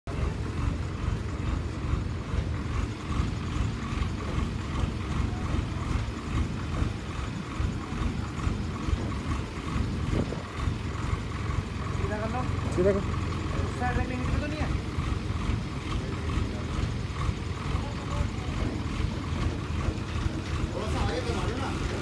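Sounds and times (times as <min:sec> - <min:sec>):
crane engine rumbling: 0:00.1 - 0:22.0.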